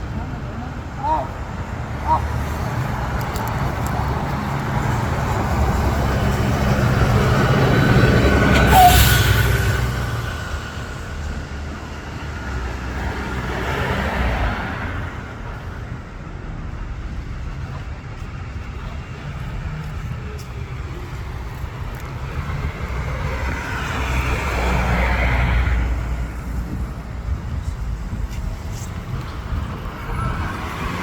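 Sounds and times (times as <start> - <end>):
vehicles passing on road: 0.0 - 31.0.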